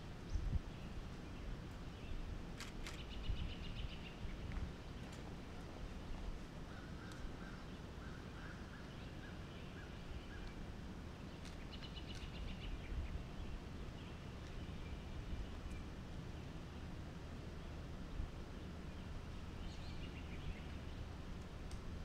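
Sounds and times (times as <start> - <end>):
low steady background rumble: 0.0 - 22.0.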